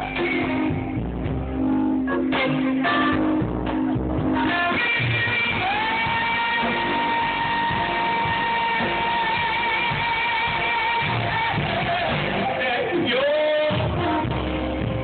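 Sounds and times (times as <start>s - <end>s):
live rock band music: 0.0s - 15.0s.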